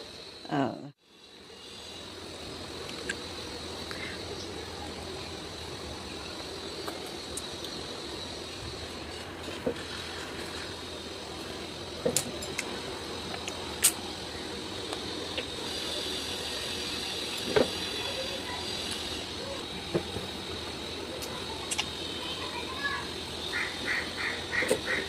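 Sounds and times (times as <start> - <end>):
steady hiss with whine: 0.0 - 25.0.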